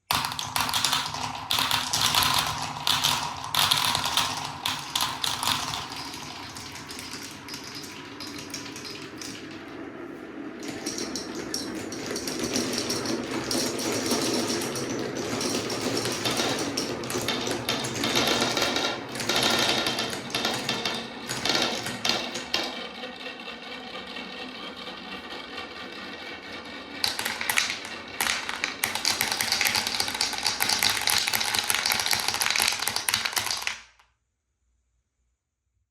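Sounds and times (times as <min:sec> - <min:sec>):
marbles rattling down wooden slopes: 0:00.0 - 0:34.0.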